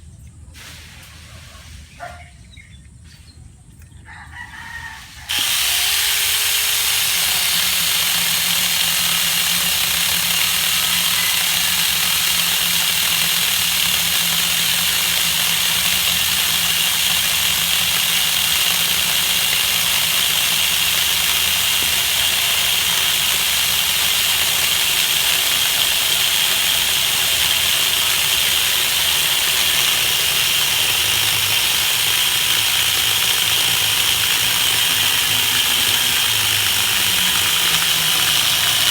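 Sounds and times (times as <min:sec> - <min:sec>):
chainsaw running: 0:04.5 - 0:38.9.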